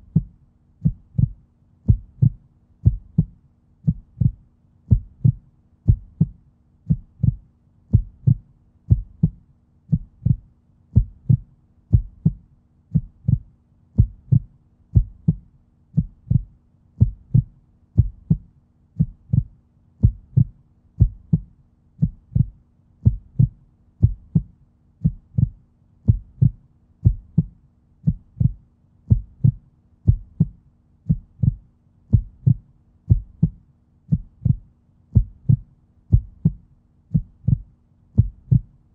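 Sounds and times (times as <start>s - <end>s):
low heartbeat-like thuds: 0.0s - 38.8s
faint steady hum: 0.0s - 38.9s.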